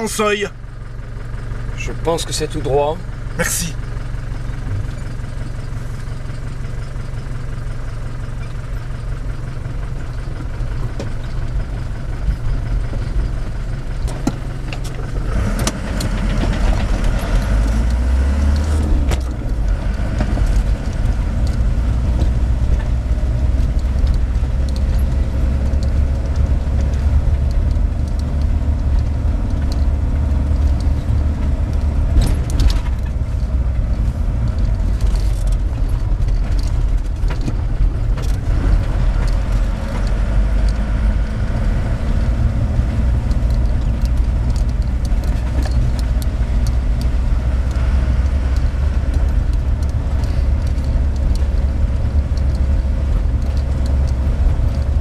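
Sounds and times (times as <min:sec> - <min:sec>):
vehicle engine and road rumble: 0:00.0 - 0:55.0.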